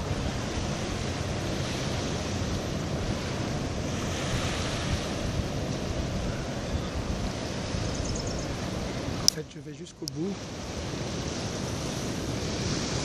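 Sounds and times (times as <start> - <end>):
sea waves washing on shore: 0.0 - 13.0
wind blowing on microphone: 0.0 - 13.0.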